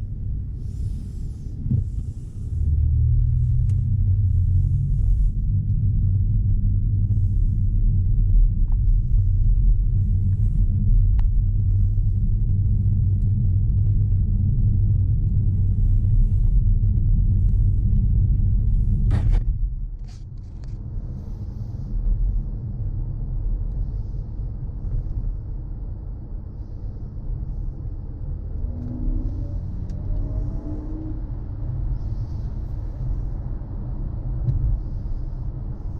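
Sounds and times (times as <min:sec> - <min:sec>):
car road and engine rumble: 0:00.0 - 0:35.9.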